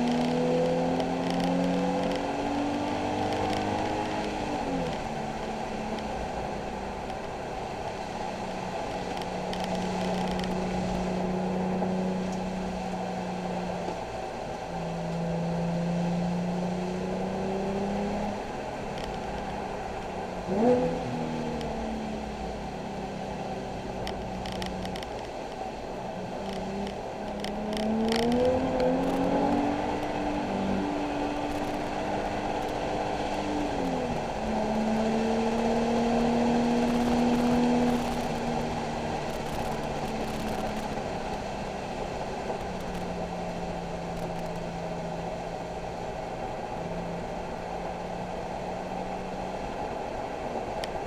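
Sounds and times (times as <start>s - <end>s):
car engine revving and accelerating: 0.0s - 25.1s, 25.9s - 51.0s
tyre and road noise: 0.0s - 51.0s.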